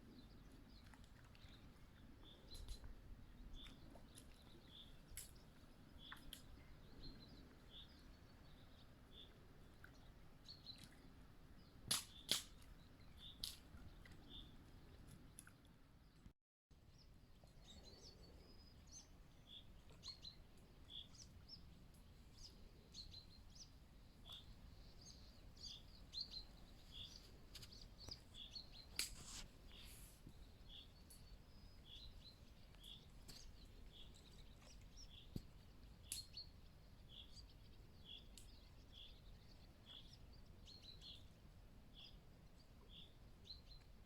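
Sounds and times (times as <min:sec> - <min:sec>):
small birds chirping: 0:00.1 - 0:11.0, 0:16.9 - 0:44.0.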